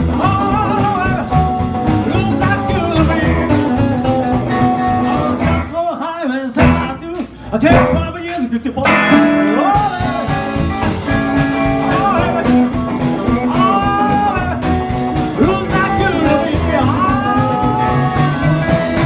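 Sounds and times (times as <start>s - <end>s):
man singing: 0.0s - 4.2s, 4.8s - 10.6s, 11.5s - 19.0s
rock and roll band playing: 0.0s - 19.0s.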